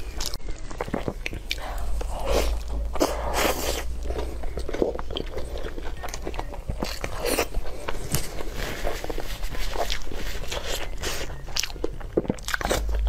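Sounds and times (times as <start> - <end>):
person biting and chewing meat: 0.0 - 13.0.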